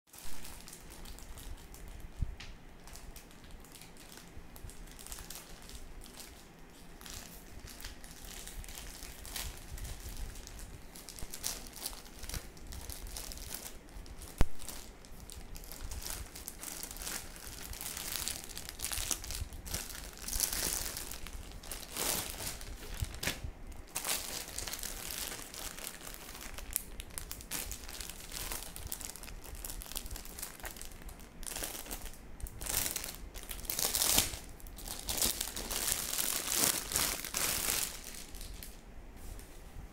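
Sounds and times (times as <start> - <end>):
plastic wrapping crinkling: 0.1 - 39.5
plastic mailer crinkling and tearing: 0.2 - 2.2, 2.8 - 38.8.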